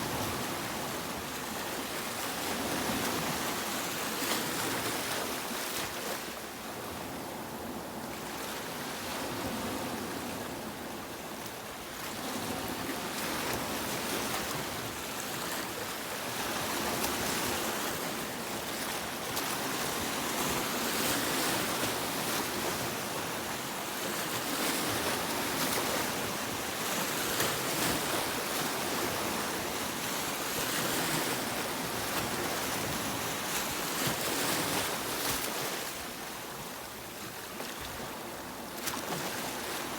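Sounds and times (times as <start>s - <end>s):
sea waves on a beach: 0.0s - 39.9s.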